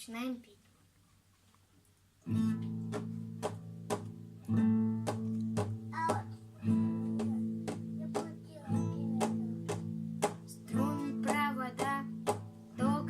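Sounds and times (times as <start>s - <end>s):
guitar strumming: 2.2s - 13.0s.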